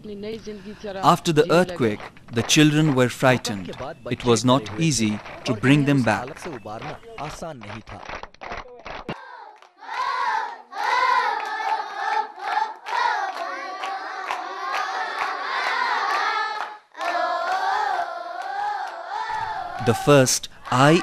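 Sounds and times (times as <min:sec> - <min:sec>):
children singing: 0:01.0 - 0:07.1, 0:09.1 - 0:21.0
hands clapping: 0:01.0 - 0:09.8, 0:10.4 - 0:21.0.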